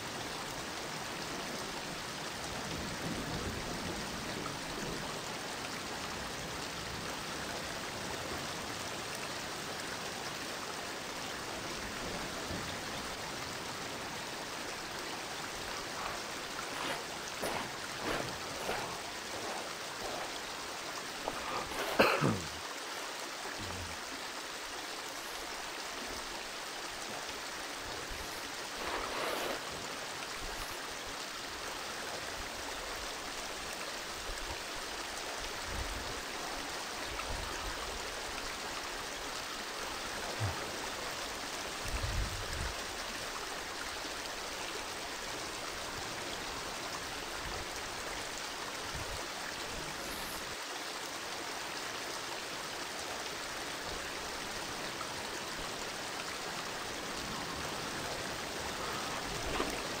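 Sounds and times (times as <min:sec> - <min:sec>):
river water rushing: 0:00.0 - 1:00.0.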